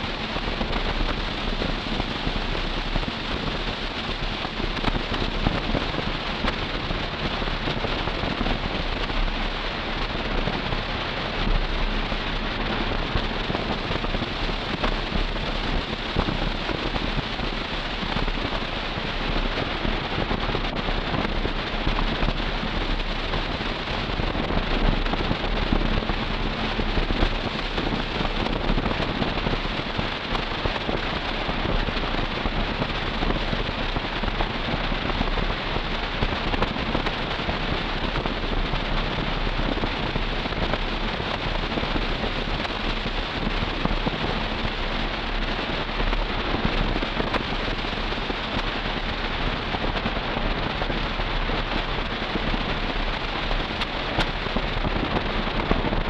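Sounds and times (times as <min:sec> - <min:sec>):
car engine and exhaust rumble: 0:00.0 - 0:56.0.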